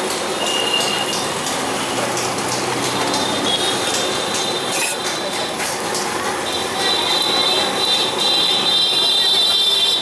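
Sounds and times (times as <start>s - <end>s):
street griddle background noise: 0.0s - 10.0s.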